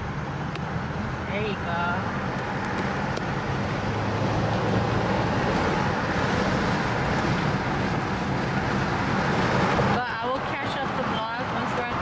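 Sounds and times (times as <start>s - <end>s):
car engine hum: 0.0s - 12.0s
road and wind noise: 0.0s - 12.0s.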